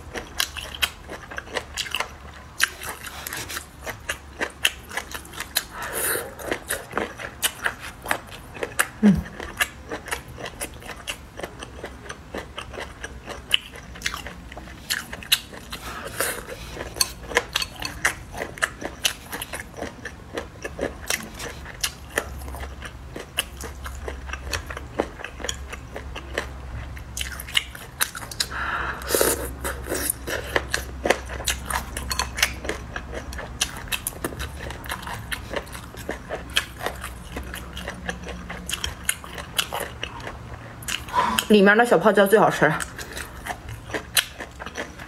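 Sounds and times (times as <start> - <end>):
crunchy chewing: 0.0 - 41.5, 42.8 - 45.0.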